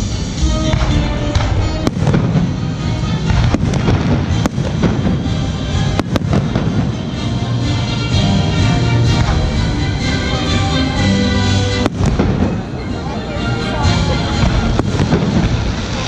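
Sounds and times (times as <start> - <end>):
fireworks sharp cracks: 0.0 - 10.6, 11.4 - 13.2, 14.0 - 16.0
fireworks booming: 0.0 - 16.0
music playing: 0.0 - 16.0.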